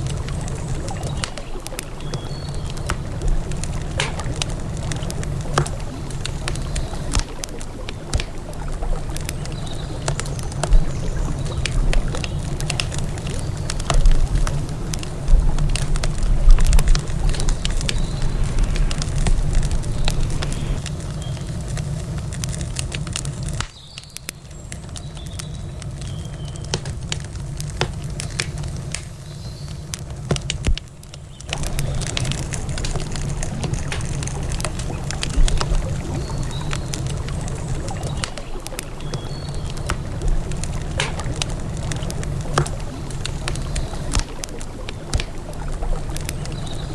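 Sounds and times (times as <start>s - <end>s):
low steady rumble: 0.0s - 23.5s, 31.5s - 46.9s
campfire crackling and popping: 0.0s - 46.9s.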